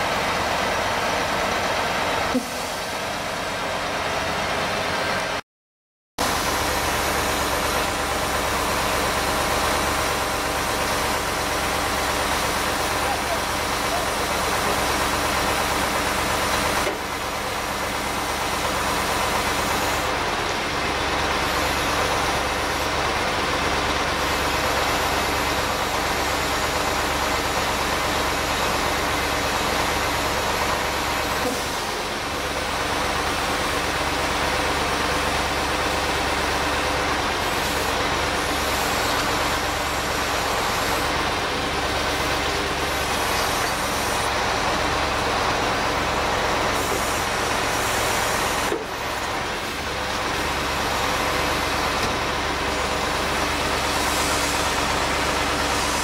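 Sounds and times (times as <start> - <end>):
diesel truck engine running: 0.0 - 5.4, 6.2 - 56.0.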